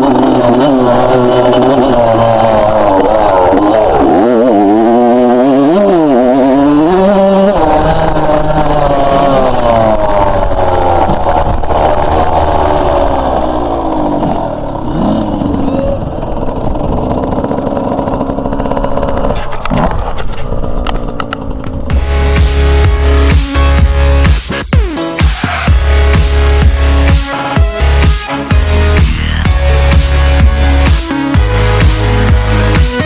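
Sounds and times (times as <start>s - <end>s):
motocross bike engine revving: 0.0s - 33.0s.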